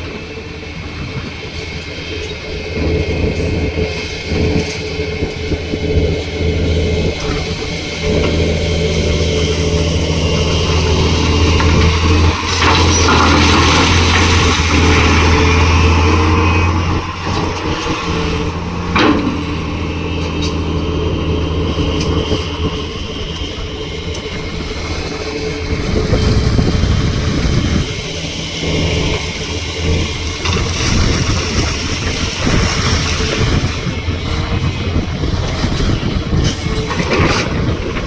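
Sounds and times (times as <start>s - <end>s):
heavy diesel engine under load: 0.0s - 38.0s.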